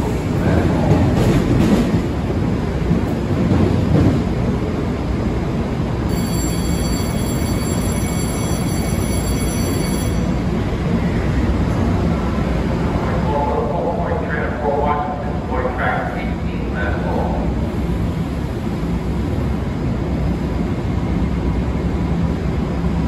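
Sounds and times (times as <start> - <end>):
electric train rumble: 0.0 - 23.0
underground station ambience: 0.0 - 23.0.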